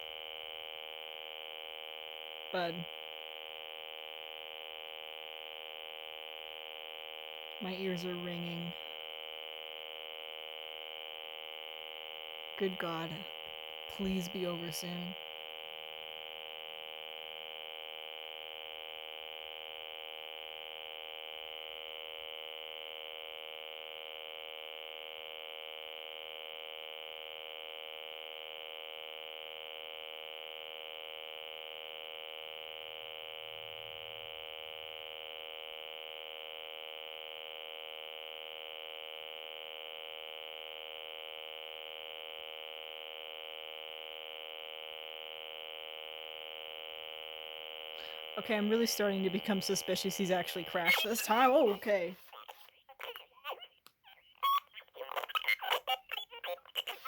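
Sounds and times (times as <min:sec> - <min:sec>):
continuous electronic tone: 0:00.0 - 0:57.0.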